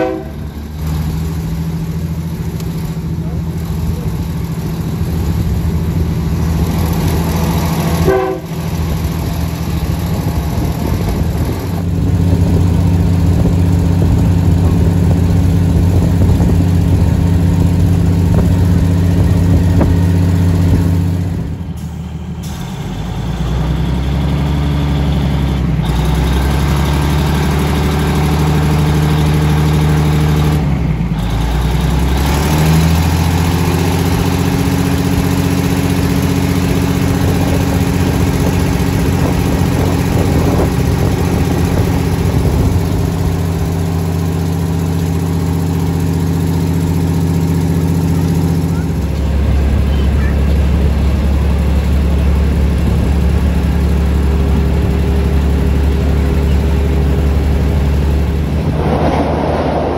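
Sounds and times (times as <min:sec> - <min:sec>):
diesel train engine drone: 0:00.0 - 0:59.9
train running noise: 0:00.0 - 0:59.9.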